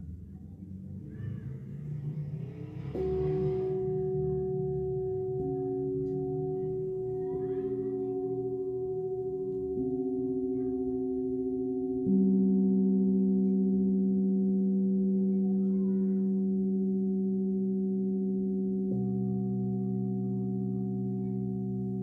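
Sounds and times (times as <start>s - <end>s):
singing bowls struck and ringing: 0.9s - 22.0s.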